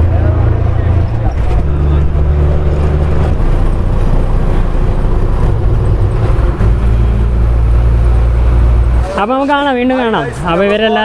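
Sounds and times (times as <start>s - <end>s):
bus engine droning: 0.0s - 11.0s.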